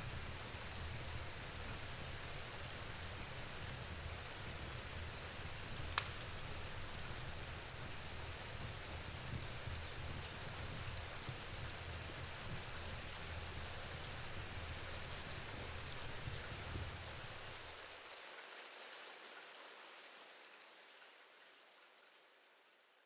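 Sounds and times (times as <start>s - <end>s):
steady rain: 0.0s - 22.3s.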